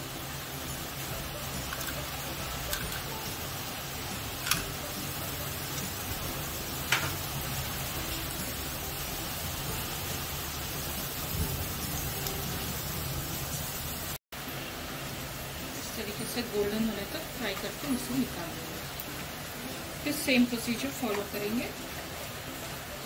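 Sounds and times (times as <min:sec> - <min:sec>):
dough sizzling in hot oil: 0:00.0 - 0:23.0.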